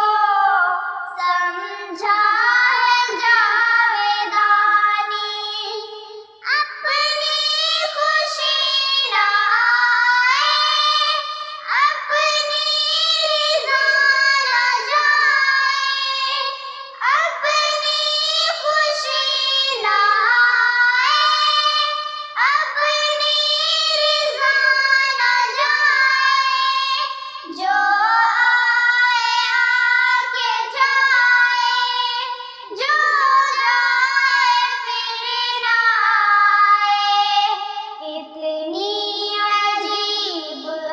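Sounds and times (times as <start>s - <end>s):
girls singing together: 0.0s - 40.9s.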